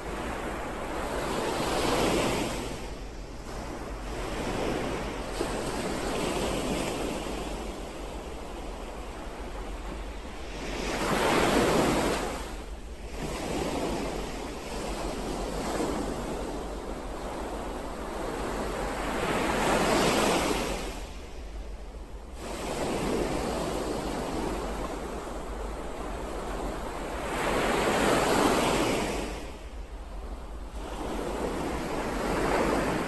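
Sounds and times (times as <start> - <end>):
big waves breaking: 0.0 - 33.0
ocean waves washing in: 0.0 - 33.0.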